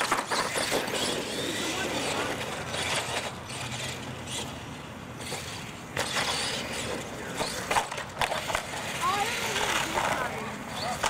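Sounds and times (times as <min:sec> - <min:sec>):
toy truck motor whirring: 0:00.0 - 0:11.0.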